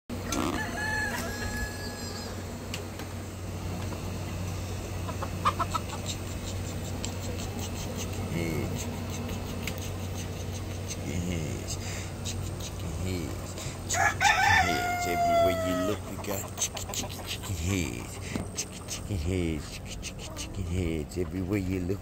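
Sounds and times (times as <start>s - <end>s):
chickens clucking and calling: 0.1s - 22.0s.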